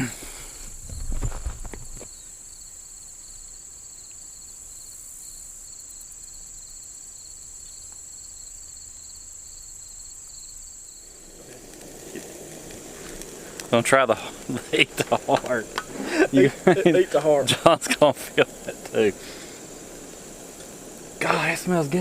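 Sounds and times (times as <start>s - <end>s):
insect high buzz: 0.0s - 22.0s
low hiss: 0.0s - 22.0s
insect pulsing trill: 0.6s - 22.0s.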